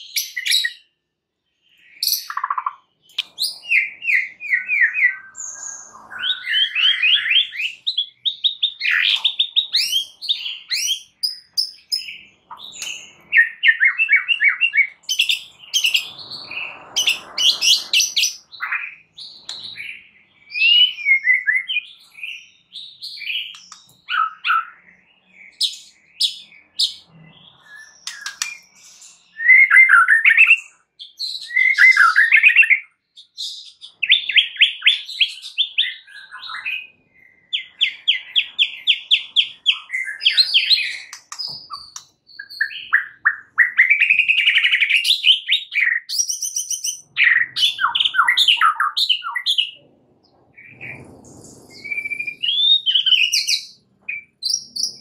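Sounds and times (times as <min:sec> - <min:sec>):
bird singing whistles and chirps: 0:00.0 - 0:01.0, 0:01.6 - 0:55.0.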